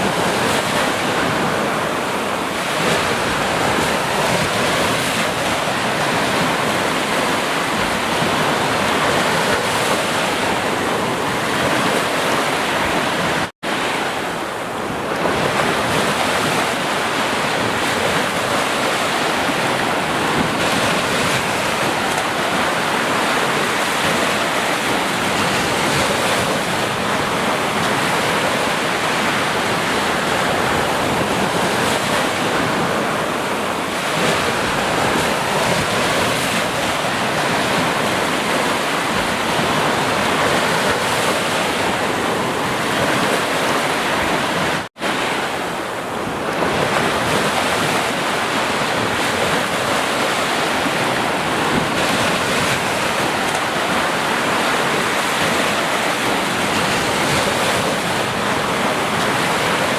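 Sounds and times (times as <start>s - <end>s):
sea surf washing on shore: 0.0s - 59.9s.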